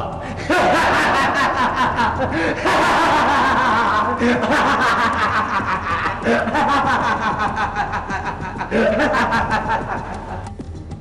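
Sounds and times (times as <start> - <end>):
person laughing loudly: 0.0 - 10.5.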